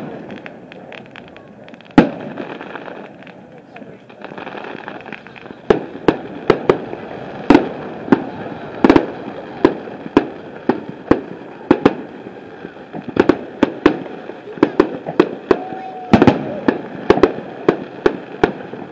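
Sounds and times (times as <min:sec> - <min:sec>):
fireworks banging: 0:00.0 - 0:18.9.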